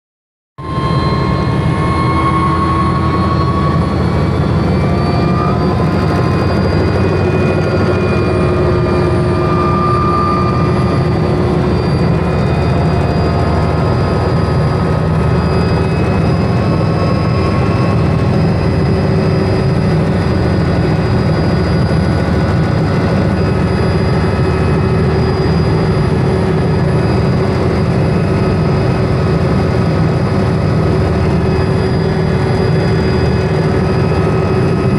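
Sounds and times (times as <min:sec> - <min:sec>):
helicopter rumble and whine: 0:00.6 - 0:34.9.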